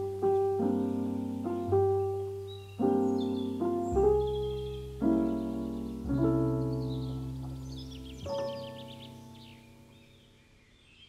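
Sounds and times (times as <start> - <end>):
slow piano chords: 0.0 - 10.6.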